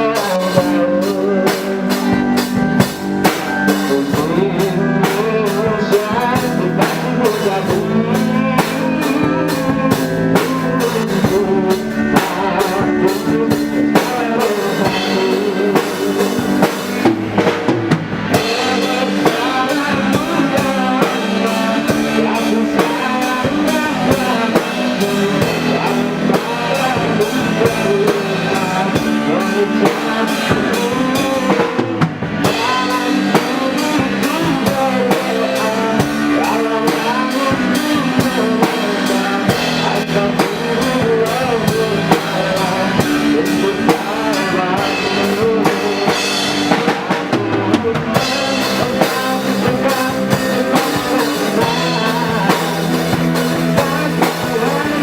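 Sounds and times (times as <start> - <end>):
band playing pop song: 0.0 - 55.0.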